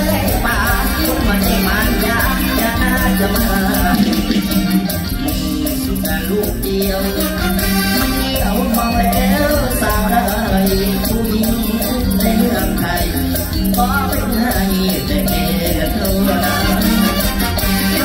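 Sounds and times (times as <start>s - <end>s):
drums and shaker beat: 0.0s - 18.0s
live band playing: 0.0s - 18.0s
saxophones: 0.0s - 18.0s.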